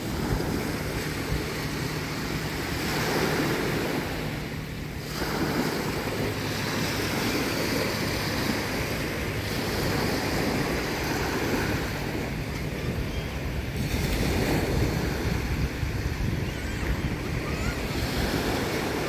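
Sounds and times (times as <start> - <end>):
waves washing up a beach: 0.0 - 19.0
wind buffeting microphone: 0.0 - 19.0.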